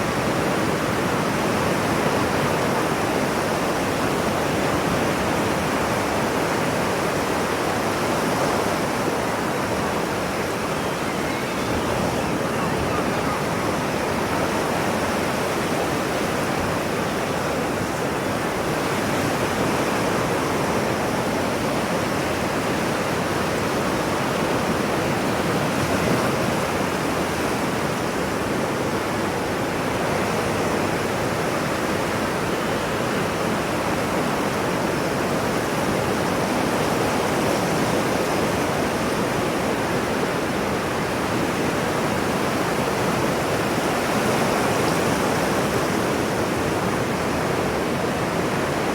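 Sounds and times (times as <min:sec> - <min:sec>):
ocean surf rushing: 0:00.0 - 0:48.9.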